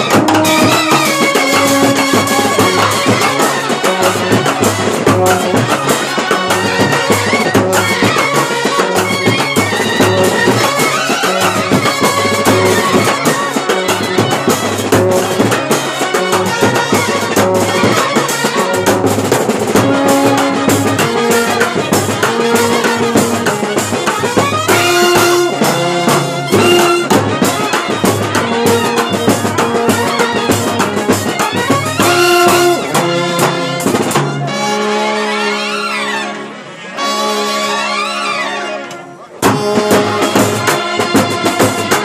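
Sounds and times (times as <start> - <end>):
loud fast drumming: 0.0 - 34.8, 39.4 - 42.0
brass band playing: 0.0 - 42.0
trumpets playing melody: 0.0 - 42.0.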